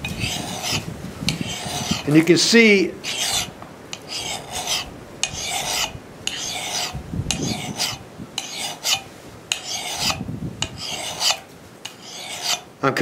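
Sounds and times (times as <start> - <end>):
file rasping on steel: 0.0 - 2.2, 3.0 - 12.7.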